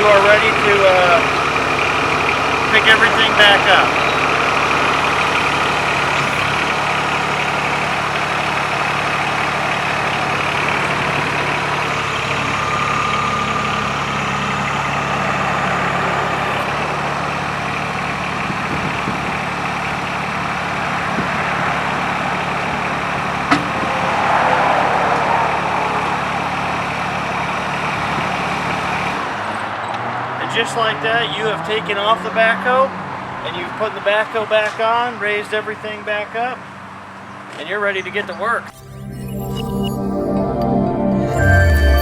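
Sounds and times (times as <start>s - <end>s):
hydraulics raising loader: 0.0s - 42.0s
tractor diesel engine running: 0.0s - 42.0s.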